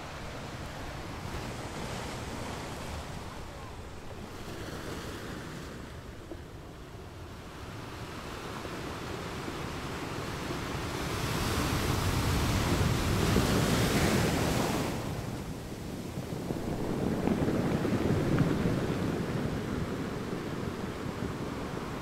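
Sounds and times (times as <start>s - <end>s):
waves washing: 0.0s - 22.0s
wind on microphone: 0.0s - 22.0s.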